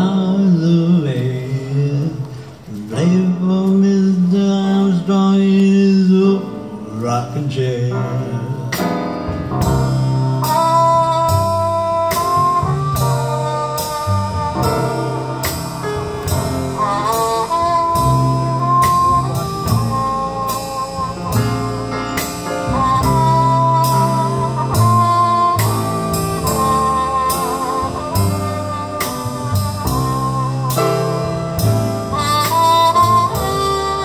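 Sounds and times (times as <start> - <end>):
horn melody: 0.0 - 34.0
jazz band playing: 0.0 - 34.0.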